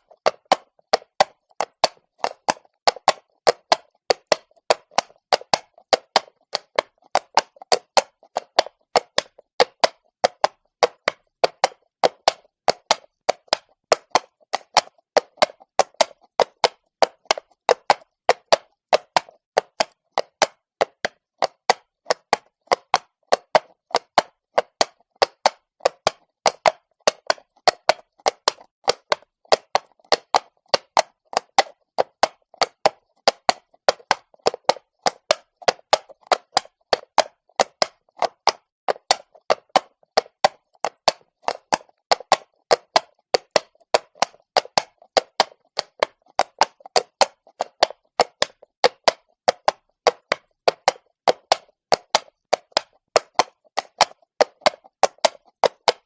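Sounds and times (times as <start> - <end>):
hooves walking on cobblestones: 0.1 - 56.0.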